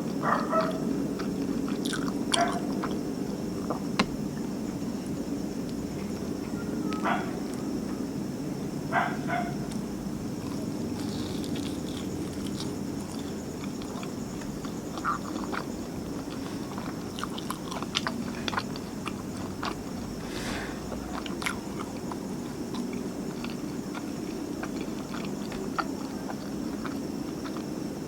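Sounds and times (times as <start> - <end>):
close chewing and biting: 0.0 - 7.7, 9.0 - 28.0.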